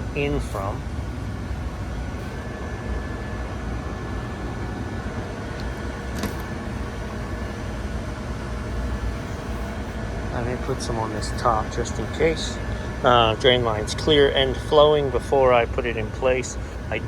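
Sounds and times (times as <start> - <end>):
air blower rushing: 0.0 - 15.0.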